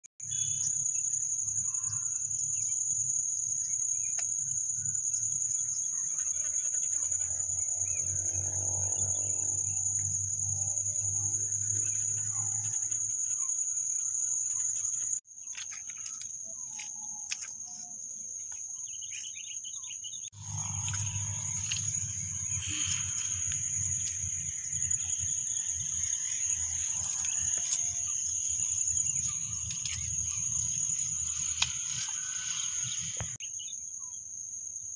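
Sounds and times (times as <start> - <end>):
insect trilling high-pitched: 0.2 - 34.1.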